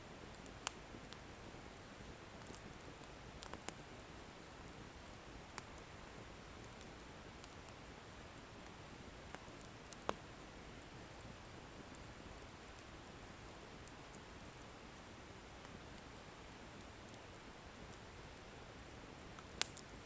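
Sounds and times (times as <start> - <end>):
wood fire crackling and popping: 0.1 - 20.0.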